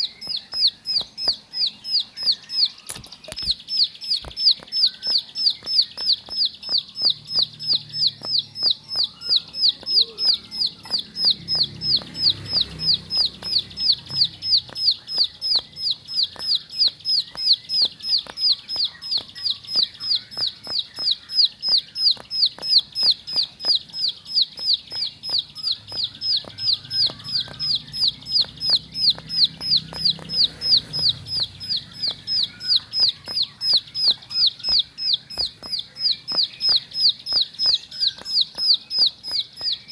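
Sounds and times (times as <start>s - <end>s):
bird calling rapid high notes: 0.0s - 39.9s.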